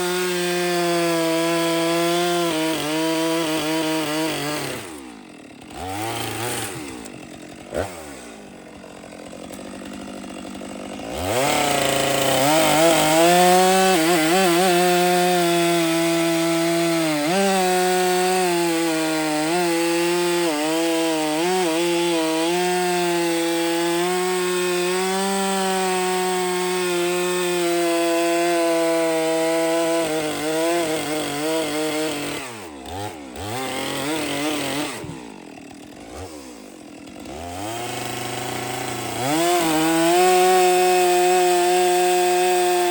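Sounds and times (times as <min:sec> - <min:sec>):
chainsaw cutting a log: 0:00.0 - 0:42.9.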